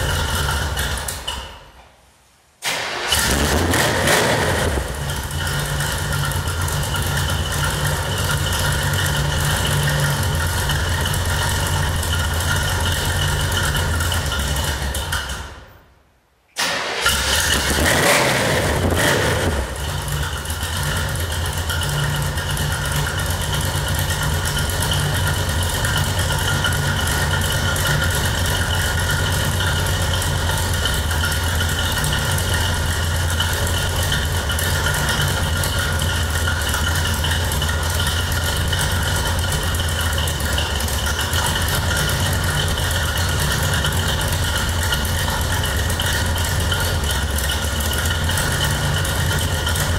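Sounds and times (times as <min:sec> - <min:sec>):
truck engine revving and idling: 0:00.0 - 0:01.4, 0:02.8 - 0:15.5, 0:16.6 - 0:49.9.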